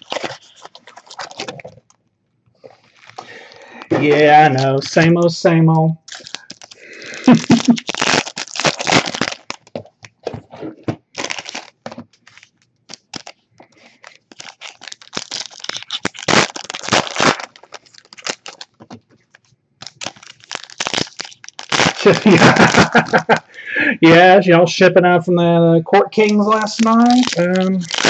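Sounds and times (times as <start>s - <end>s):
foil wrappers crinkling and tearing: 0.0s - 2.0s, 2.6s - 5.0s, 6.1s - 23.5s, 26.2s - 28.0s.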